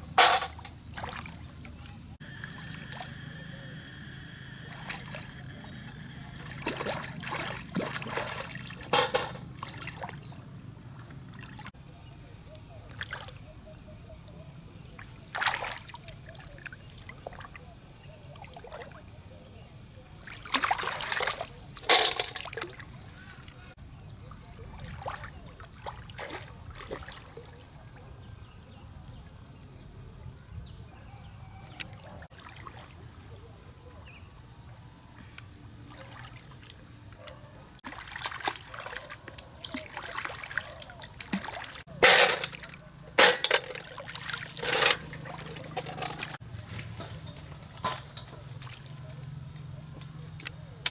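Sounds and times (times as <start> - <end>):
water splashing and sloshing: 0.0 - 3.2, 4.6 - 10.4, 11.0 - 11.8, 12.6 - 13.7, 14.3 - 19.2, 20.2 - 27.9, 32.0 - 33.4, 35.2 - 50.9.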